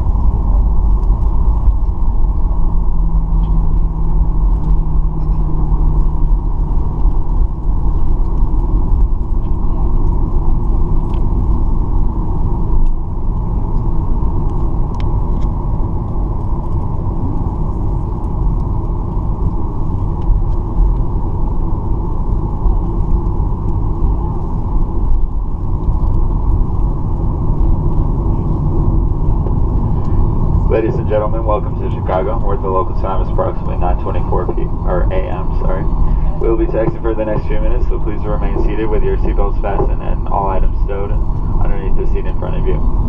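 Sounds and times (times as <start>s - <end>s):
jet engines rumbling in cabin: 0.0s - 43.0s
steady hum: 0.0s - 43.0s.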